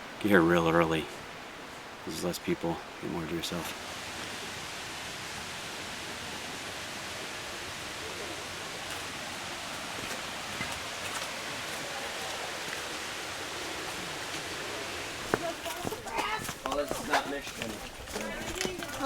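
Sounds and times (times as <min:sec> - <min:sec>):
rushing mountain water: 0:00.0 - 0:19.0.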